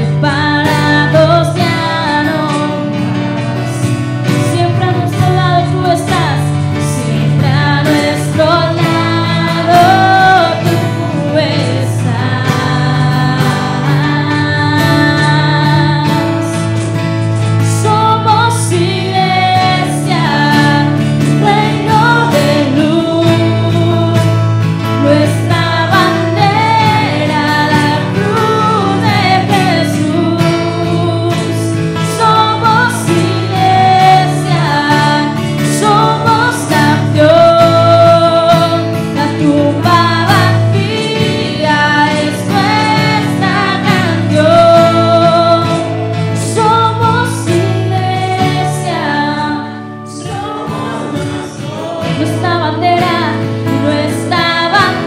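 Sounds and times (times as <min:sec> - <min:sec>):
acoustic guitar: 0:00.0 - 0:55.0
cajon drum: 0:00.0 - 0:55.0
keyboard: 0:00.0 - 0:55.0
women singing: 0:00.0 - 0:55.0.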